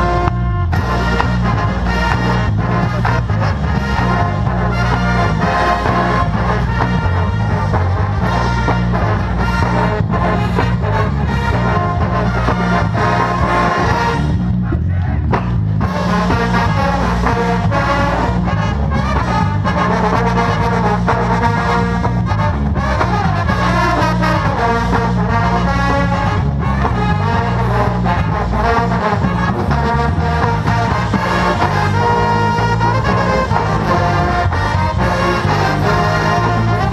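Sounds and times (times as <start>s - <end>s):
brass playing a tune: 0.0s - 14.7s, 15.7s - 36.9s.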